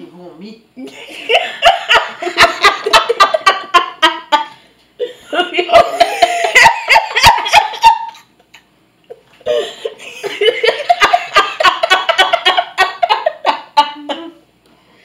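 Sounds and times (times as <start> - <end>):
people laughing hard: 1.0 - 8.3, 9.4 - 14.3.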